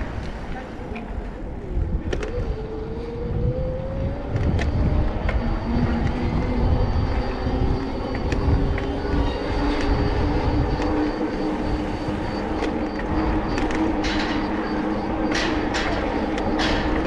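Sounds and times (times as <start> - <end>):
heavy vehicle rumbling: 0.0 - 17.0.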